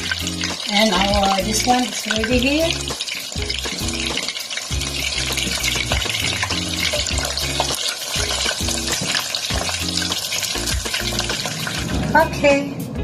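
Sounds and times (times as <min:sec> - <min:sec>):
food sizzling in a pan: 0:00.0 - 0:12.6
background music: 0:00.0 - 0:13.0.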